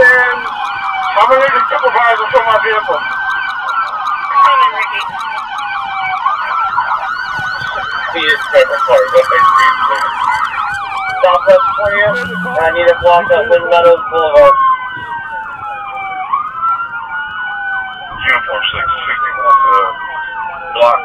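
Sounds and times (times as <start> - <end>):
siren wailing: 0.0 - 21.0
siren yelping: 0.0 - 21.0.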